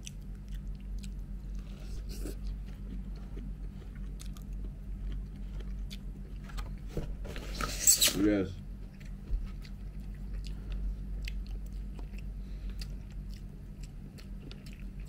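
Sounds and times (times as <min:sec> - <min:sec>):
person chewing food: 0:00.0 - 0:06.9, 0:08.7 - 0:15.0
steady low hum: 0:00.0 - 0:15.0.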